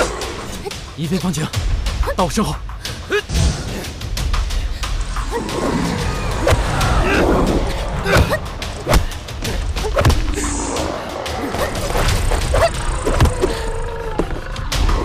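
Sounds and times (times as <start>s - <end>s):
action film music: 0.0s - 15.0s.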